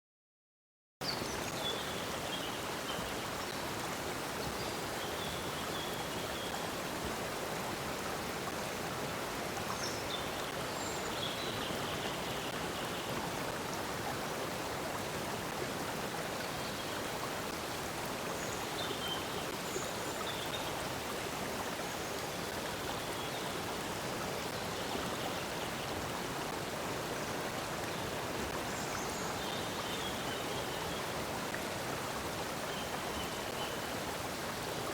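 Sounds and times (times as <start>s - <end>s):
stream water rushing: 1.0s - 34.9s.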